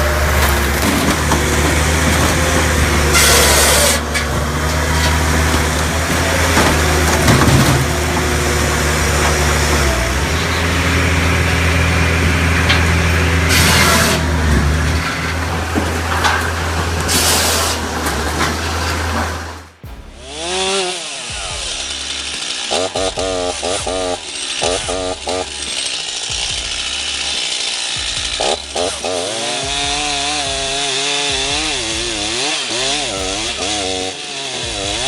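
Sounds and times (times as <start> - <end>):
firewood processor engine droning: 0.0 - 35.0.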